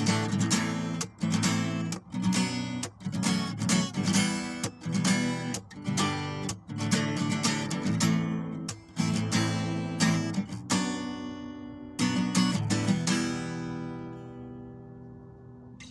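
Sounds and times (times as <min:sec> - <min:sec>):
acoustic guitar strumming: 0:00.0 - 0:15.9.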